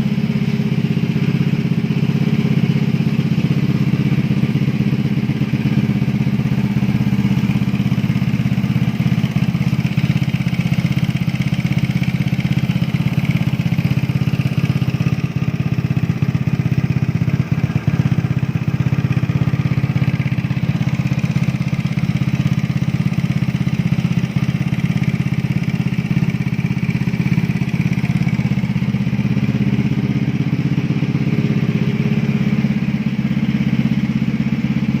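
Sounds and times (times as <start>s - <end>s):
scooter engine running: 0.0s - 35.0s.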